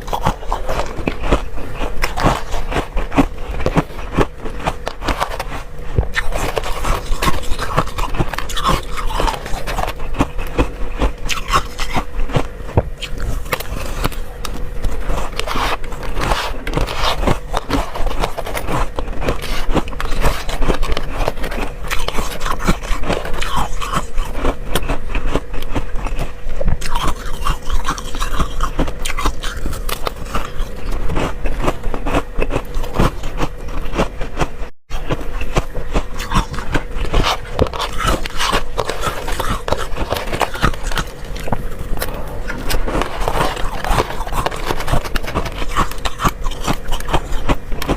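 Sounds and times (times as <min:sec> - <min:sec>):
crunchy chewing of frost: 0:00.0 - 0:47.9.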